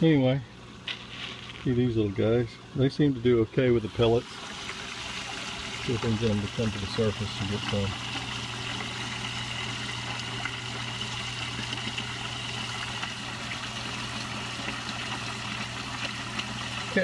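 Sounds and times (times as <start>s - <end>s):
steady low hum: 0.0s - 17.0s
water trickling in tank: 0.6s - 17.0s.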